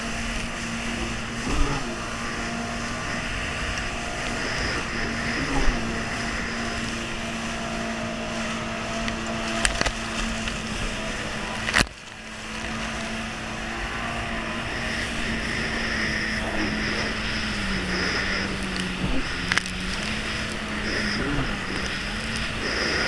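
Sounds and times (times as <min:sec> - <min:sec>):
jet ski engine running: 0:00.0 - 0:23.0
rushing water and spray: 0:00.0 - 0:23.0.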